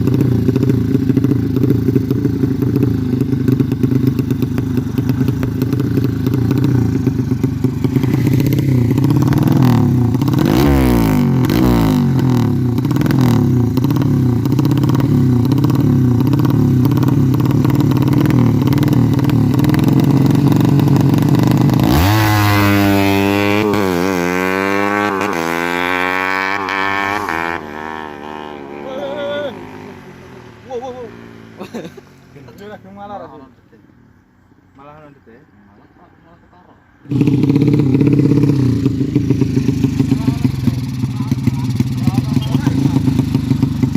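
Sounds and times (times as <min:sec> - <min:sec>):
motorcycle engine revving: 0:00.0 - 0:32.8, 0:37.0 - 0:43.9.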